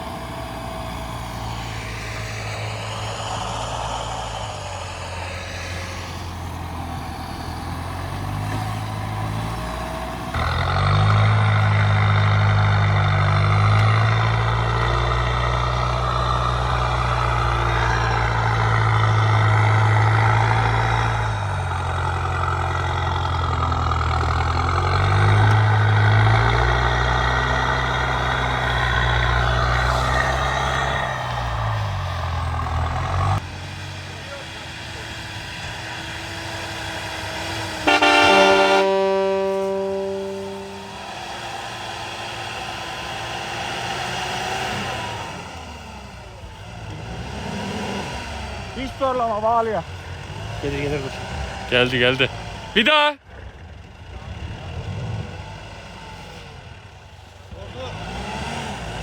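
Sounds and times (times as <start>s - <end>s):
pickup engine revving: 0.0s - 52.8s, 57.5s - 59.0s.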